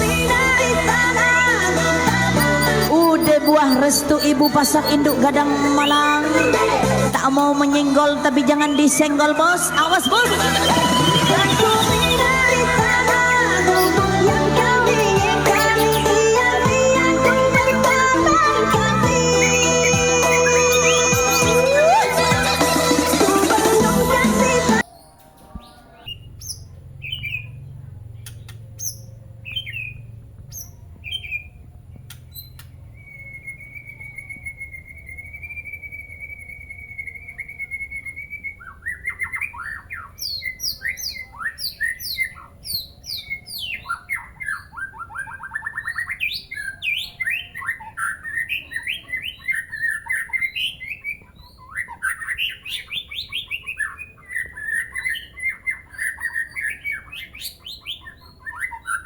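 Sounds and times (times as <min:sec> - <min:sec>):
bird calling and singing: 0:00.0 - 0:59.0.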